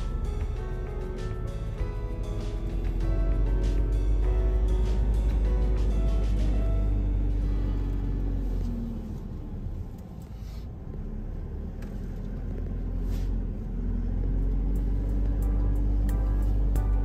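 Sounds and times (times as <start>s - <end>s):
road rumble: 0.0s - 17.0s
van engine while driving: 0.0s - 17.0s.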